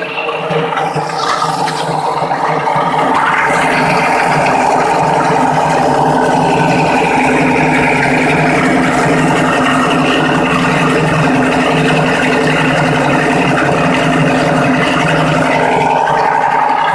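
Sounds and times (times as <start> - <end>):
grinding machine running: 0.0 - 16.9.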